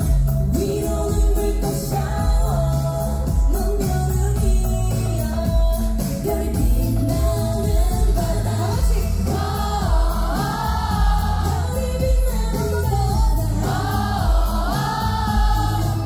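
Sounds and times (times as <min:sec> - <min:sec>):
pop backing track with beat: 0:00.0 - 0:16.0
women singing into microphones: 0:00.0 - 0:16.0.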